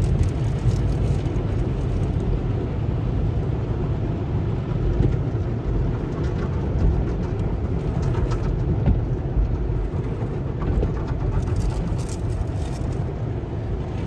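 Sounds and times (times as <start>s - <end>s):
water on windshield: 0.0s - 2.4s, 5.0s - 14.0s.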